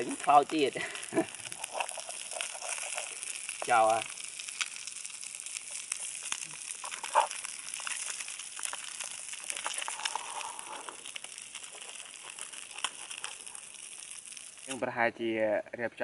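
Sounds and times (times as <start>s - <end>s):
light crackling and rustling: 0.0s - 14.9s
steady high hiss: 0.0s - 16.0s.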